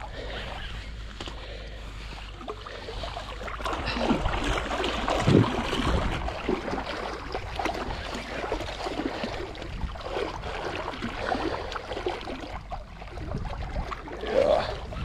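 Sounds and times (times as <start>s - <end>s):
water lapping against kayak: 0.0s - 15.0s
small splashes: 2.0s - 15.0s.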